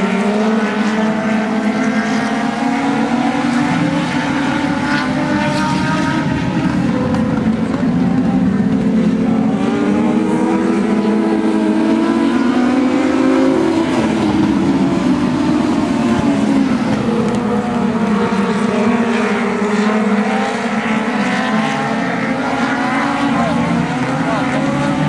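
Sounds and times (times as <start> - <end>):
race cars passing: 0.0 - 25.0.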